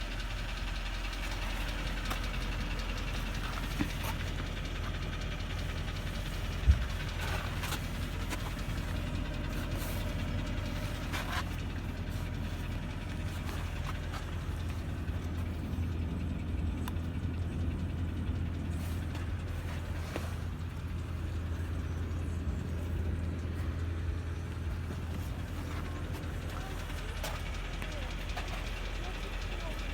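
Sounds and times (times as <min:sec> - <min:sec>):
car engine running with knock: 0:00.0 - 0:29.9.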